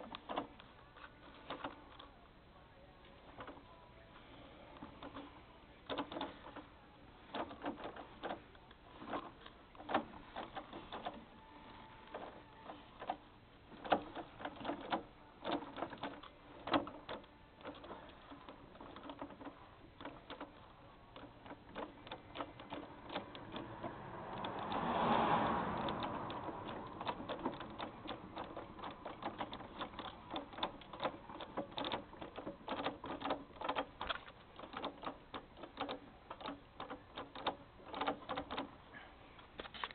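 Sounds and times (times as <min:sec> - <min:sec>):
gearbox clicking and knocking: 0:00.0 - 0:02.0, 0:03.2 - 0:03.7, 0:04.7 - 0:11.4, 0:12.0 - 0:39.9.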